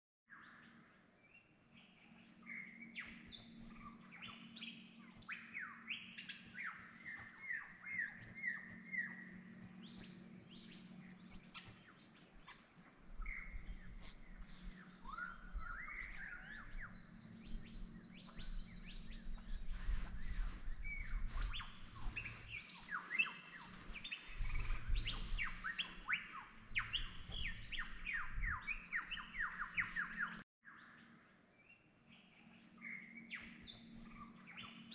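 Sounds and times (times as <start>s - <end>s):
birds chirping and whistling: 1.8s - 30.4s, 32.5s - 34.9s.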